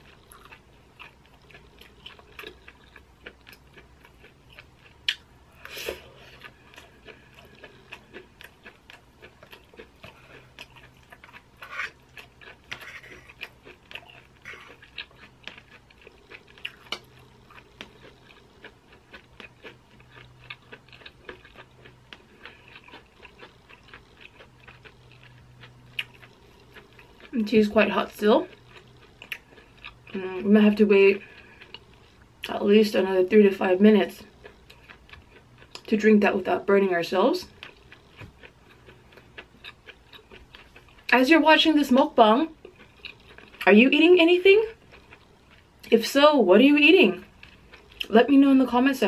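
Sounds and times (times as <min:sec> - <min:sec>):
person chewing food: 0:00.0 - 0:30.5, 0:31.1 - 0:32.6, 0:34.2 - 0:36.0, 0:37.4 - 0:41.1, 0:42.5 - 0:43.7, 0:44.6 - 0:45.9, 0:47.2 - 0:48.2.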